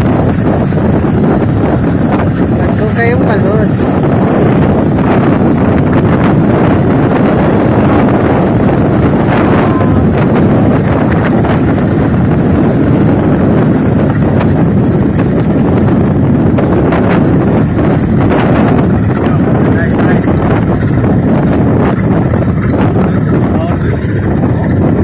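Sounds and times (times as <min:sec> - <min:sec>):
motorboat engine running: 0:00.0 - 0:25.0
wind buffeting microphone: 0:00.0 - 0:25.0.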